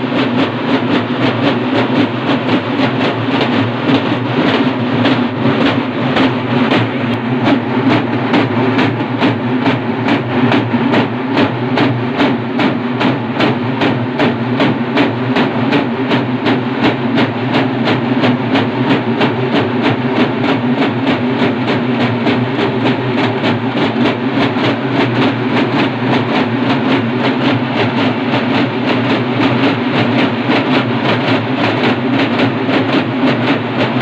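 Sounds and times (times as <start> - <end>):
folk drummers playing fast beats: 0.0 - 34.0
steady low drone: 0.0 - 34.0.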